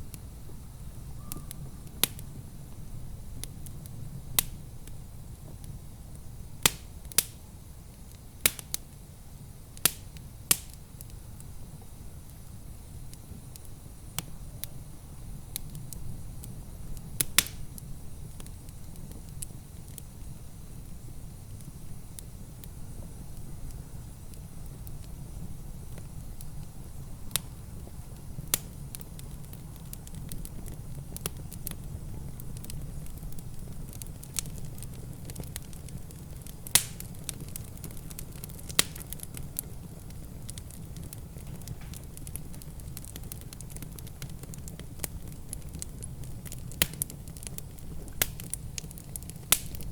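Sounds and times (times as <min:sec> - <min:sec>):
low rumble of fire: 0:00.0 - 0:49.9
wood fire crackling and popping: 0:00.0 - 0:49.9.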